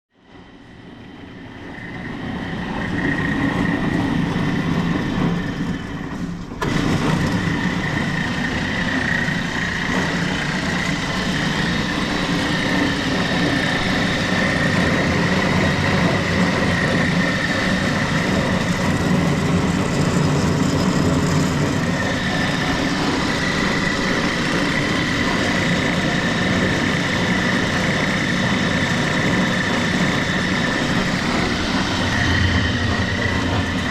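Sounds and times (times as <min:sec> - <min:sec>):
band saw running: 0:01.8 - 0:33.9.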